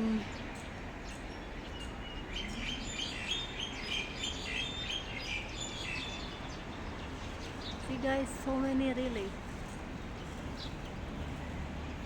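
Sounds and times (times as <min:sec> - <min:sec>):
flock of small birds chirping: 0:00.0 - 0:12.0.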